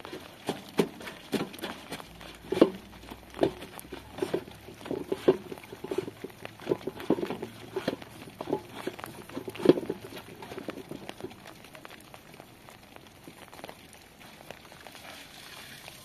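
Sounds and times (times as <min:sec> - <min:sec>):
clothes scrubbed in soapy water: 0:00.0 - 0:16.0
water splashing and squelching: 0:00.0 - 0:16.0.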